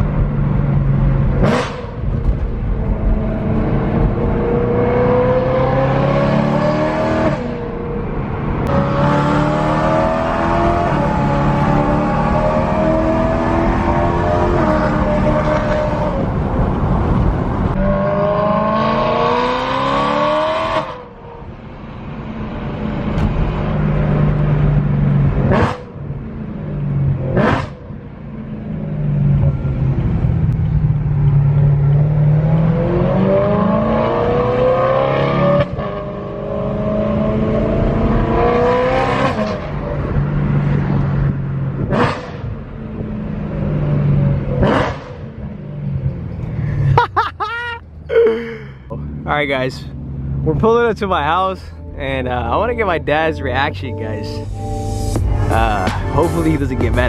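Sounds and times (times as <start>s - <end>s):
car engine accelerating hard: 0.0s - 46.6s.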